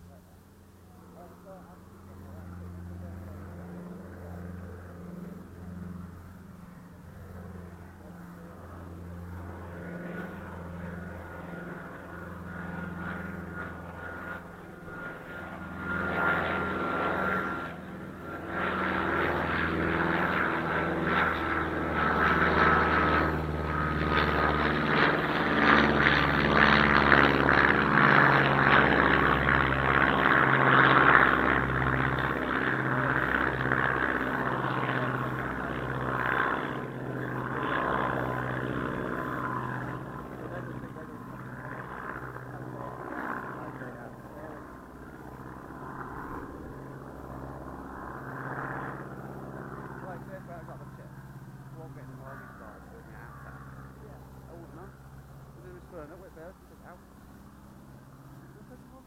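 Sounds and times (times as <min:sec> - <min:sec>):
quadcopter motors whining: 0:00.9 - 0:59.0.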